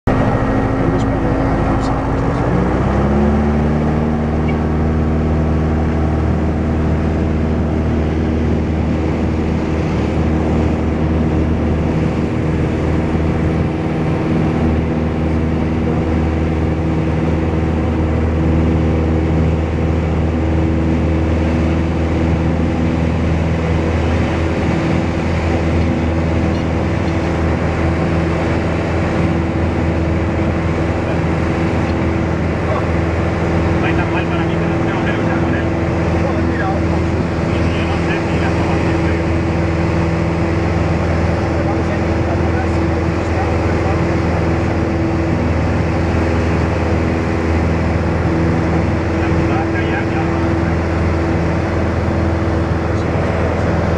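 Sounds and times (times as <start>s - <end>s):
airplane engine at full power: 0.0s - 53.9s.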